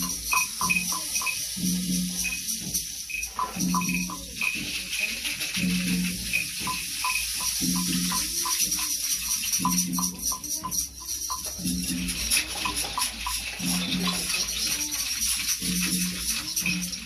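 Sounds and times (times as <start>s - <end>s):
rainsticks and shakers rattling: 0.0s - 17.0s.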